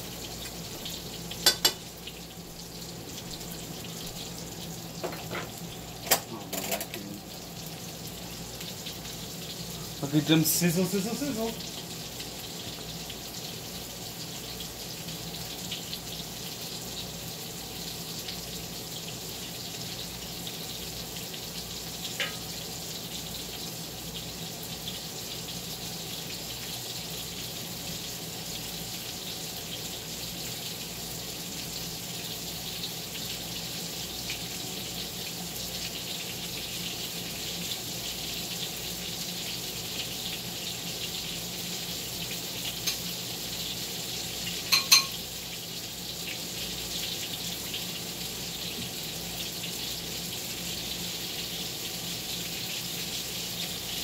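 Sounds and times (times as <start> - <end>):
cutlets sizzling in a skillet: 0.0 - 54.0.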